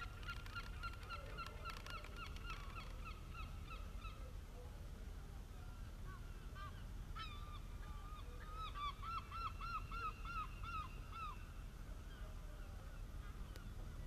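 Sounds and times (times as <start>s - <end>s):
bird calling: 0.0s - 4.7s, 5.5s - 14.0s.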